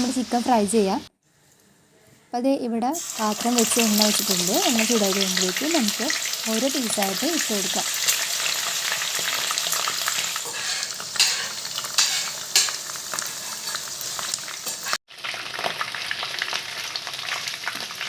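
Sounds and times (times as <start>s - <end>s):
chicken deep-frying in oil: 3.0s - 18.0s.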